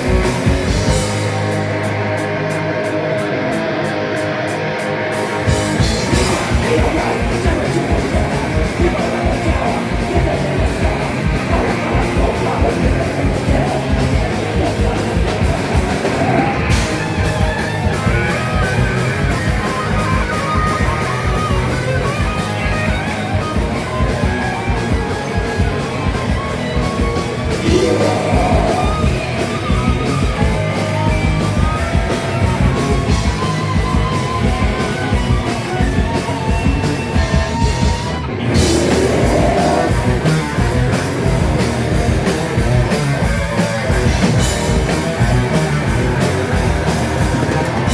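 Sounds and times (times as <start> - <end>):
distorted electric guitars: 0.0 - 47.9
heavy band playing loud and fast: 0.0 - 47.9.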